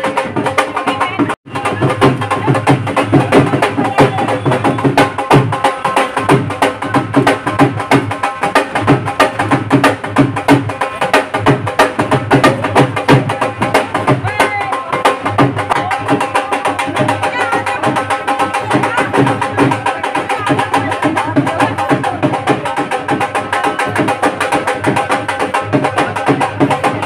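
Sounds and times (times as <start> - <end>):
dance music with dhol beat: 0.0 - 27.0.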